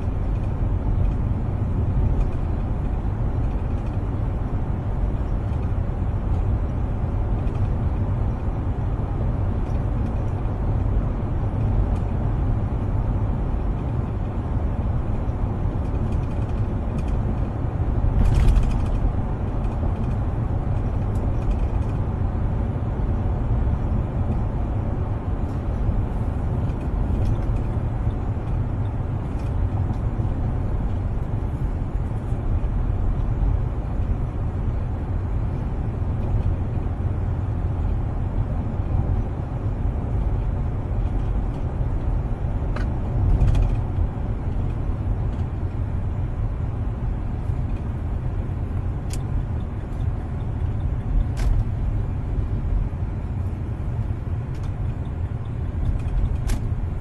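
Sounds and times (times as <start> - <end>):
car cabin road rumble: 0.0 - 57.0.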